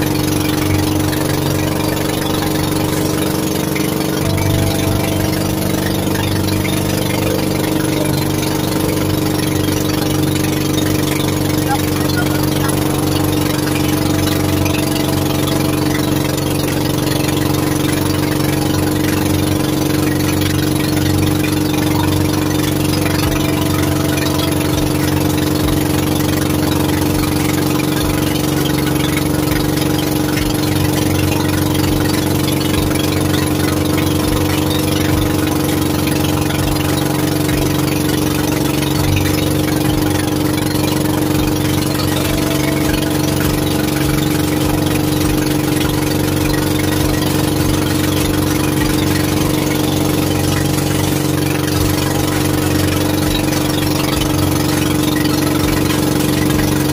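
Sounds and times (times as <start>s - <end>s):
boat motor droning: 0.0s - 56.9s.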